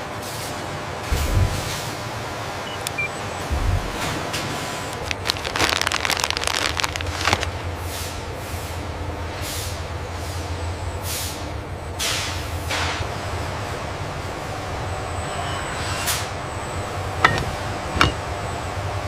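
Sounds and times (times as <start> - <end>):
factory machinery humming: 0.0 - 19.0.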